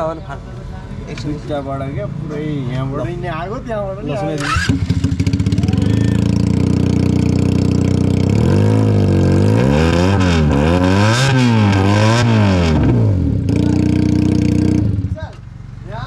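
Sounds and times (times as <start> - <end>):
motorcycle engine idling and revving: 1.1 - 16.0.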